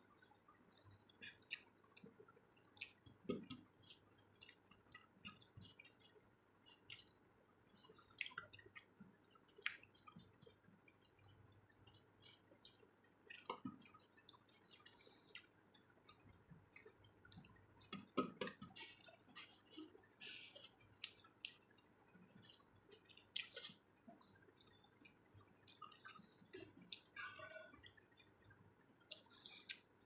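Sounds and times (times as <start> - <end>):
chewing: 0.1 - 28.3, 29.0 - 30.0.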